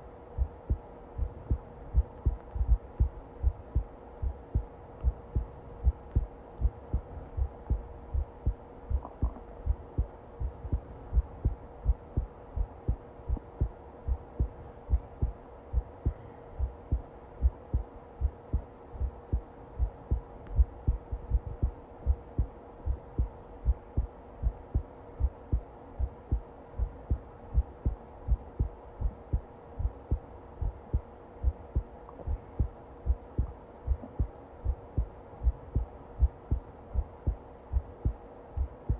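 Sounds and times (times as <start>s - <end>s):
faint steady hum: 0.0s - 38.9s
heartbeat thumps: 0.4s - 38.9s.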